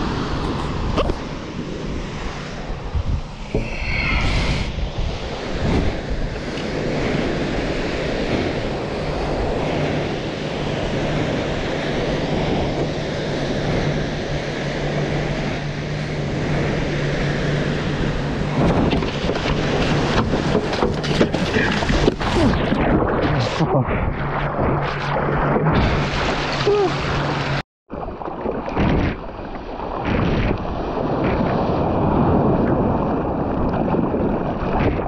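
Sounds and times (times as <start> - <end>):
surf breaking on beach: 0.0 - 35.0
wind buffeting microphone: 0.0 - 35.0
water splashing around surfboard: 5.0 - 35.0.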